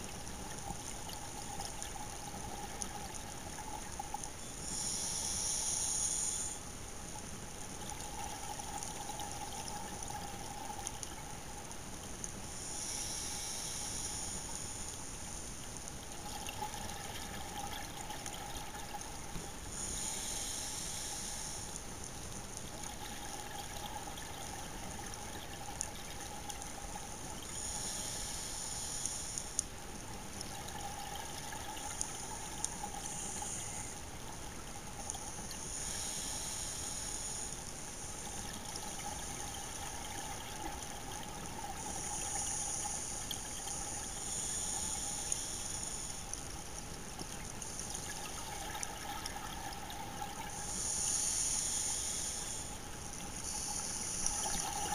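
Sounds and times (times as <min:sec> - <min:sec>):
faint constant tone: 0:00.0 - 0:54.9
underwater hiss: 0:00.0 - 0:54.9.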